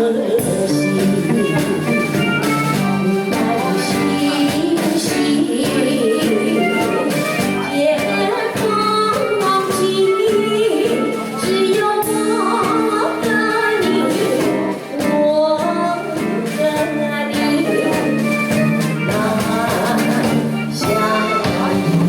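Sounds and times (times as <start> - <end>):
instrumental backing track: 0.0 - 22.0
woman singing: 0.0 - 22.0.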